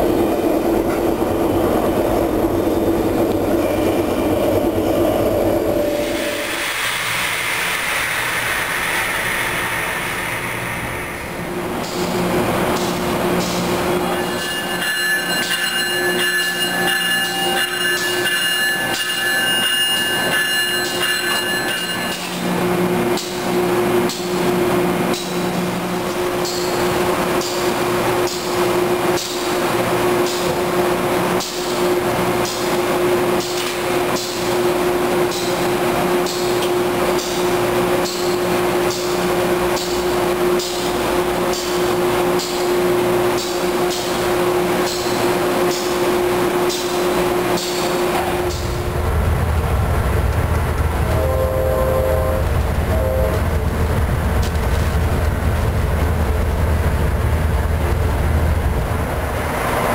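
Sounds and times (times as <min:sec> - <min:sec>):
locomotive humming with whine: 0:00.0 - 0:59.9.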